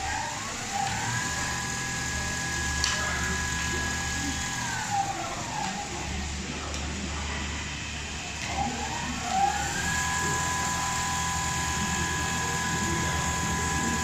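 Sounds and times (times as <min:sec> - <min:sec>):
sewing machine running: 0:00.0 - 0:06.7, 0:07.9 - 0:14.0
drive motors whining: 0:00.0 - 0:14.0.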